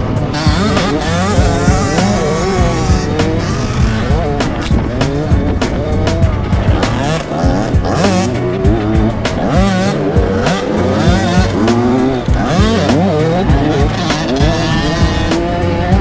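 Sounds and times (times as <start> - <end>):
background music: 0.0 - 16.0
dirt bike engines revving: 0.0 - 16.0.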